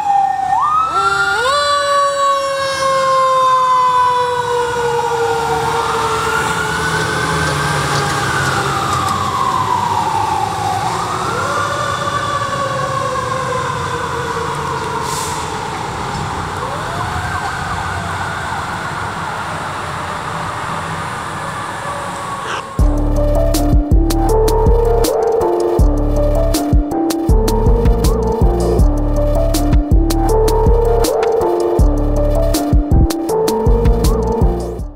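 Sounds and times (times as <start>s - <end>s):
fire truck engines rumbling: 0.0s - 34.8s
fire truck sirens wailing: 0.0s - 34.9s.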